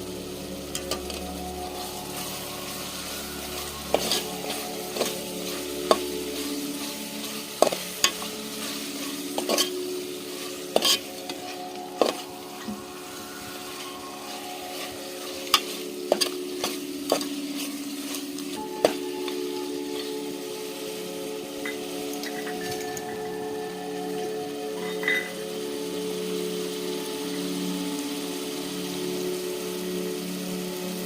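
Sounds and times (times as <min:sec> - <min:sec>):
chicken sizzling in a pan: 0:00.0 - 0:31.0.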